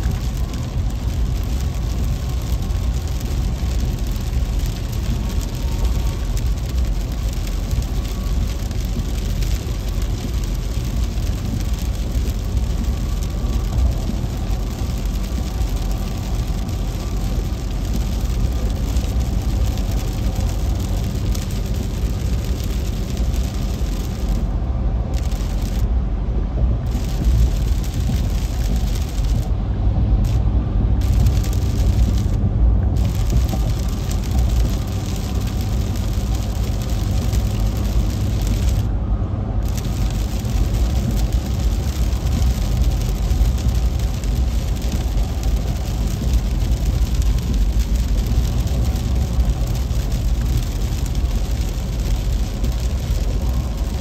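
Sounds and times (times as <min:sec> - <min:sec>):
heavy rain on car roof: 0:00.0 - 0:54.0
tyre and road noise: 0:00.0 - 0:54.0.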